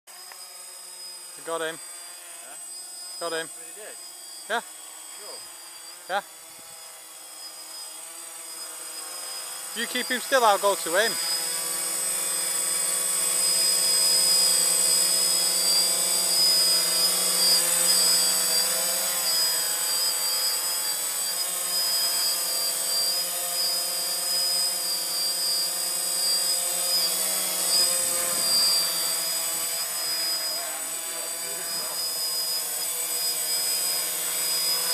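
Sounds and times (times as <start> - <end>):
drone motors buzzing: 0.1 - 34.9.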